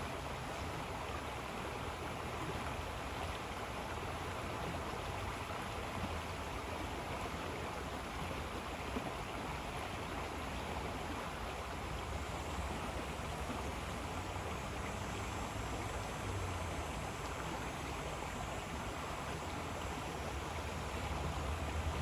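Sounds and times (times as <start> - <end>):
river water flowing: 0.0 - 22.0.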